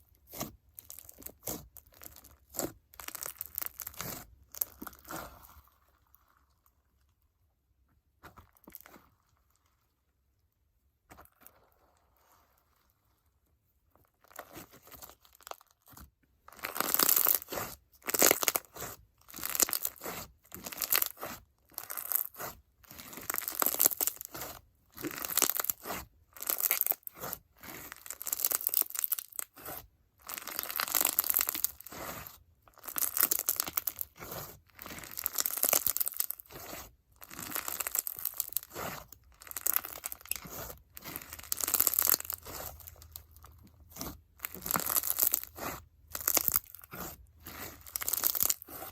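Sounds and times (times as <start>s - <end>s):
slime crackling and squelching: 0.0s - 10.2s, 11.0s - 48.9s.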